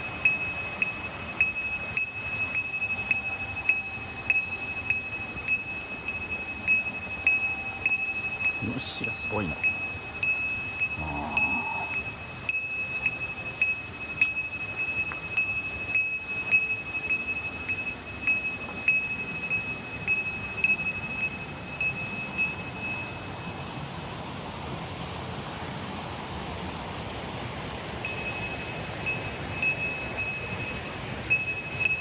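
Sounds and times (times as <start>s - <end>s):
bell jingling: 0.0s - 23.8s, 28.0s - 32.0s.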